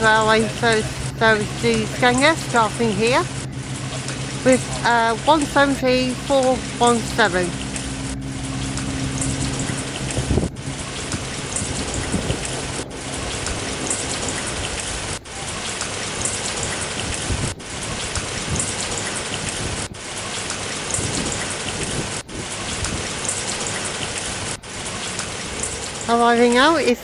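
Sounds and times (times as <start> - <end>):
heavy rain hissing: 0.0 - 27.0
low engine drone: 0.0 - 27.0.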